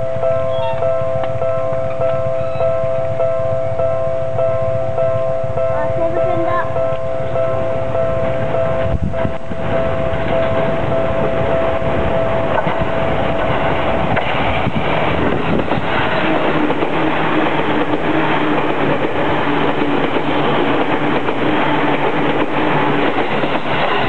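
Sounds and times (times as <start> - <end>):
crossing warning alarm tones: 0.0 - 24.0
train wheels rumbling on rails: 0.0 - 24.0.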